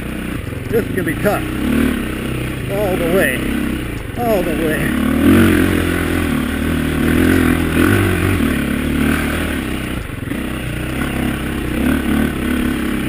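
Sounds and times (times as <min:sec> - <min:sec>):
bike rattling: 0:00.0 - 0:13.0
dirt bike engine revving: 0:00.0 - 0:13.0.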